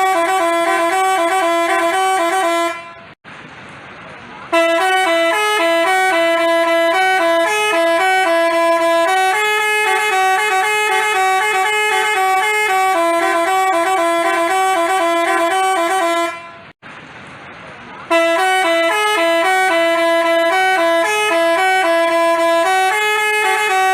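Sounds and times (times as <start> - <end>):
multi-tone horn playing tune: 0.0 - 3.2, 4.5 - 16.8, 18.1 - 23.9.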